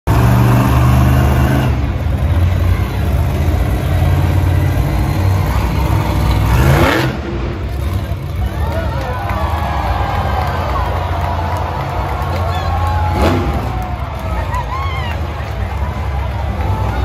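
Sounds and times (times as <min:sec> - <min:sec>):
truck engine rumbling and revving: 0:00.0 - 0:17.0.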